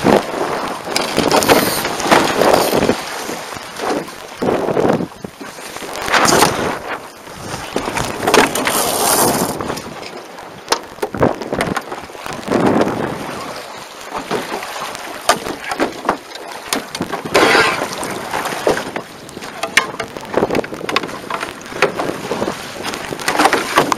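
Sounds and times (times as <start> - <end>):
water rushing along hulls: 0.0 - 23.9
wind buffeting microphone: 0.0 - 23.9.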